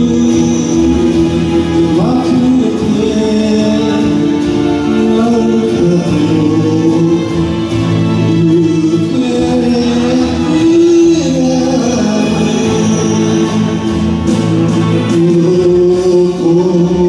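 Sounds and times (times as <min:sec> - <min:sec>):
karaoke backing track: 0:00.0 - 0:17.0
man singing: 0:00.0 - 0:17.0.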